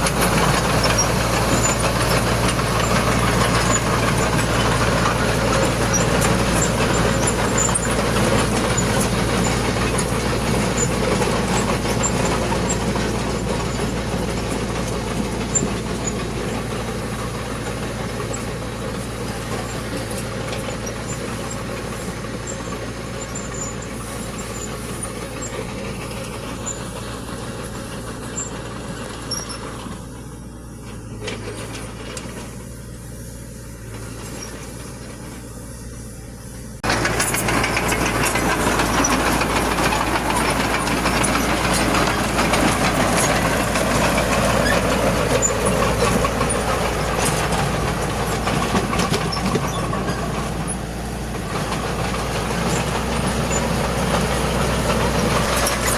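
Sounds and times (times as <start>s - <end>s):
heavy machinery diesel engine humming: 0.0s - 55.9s.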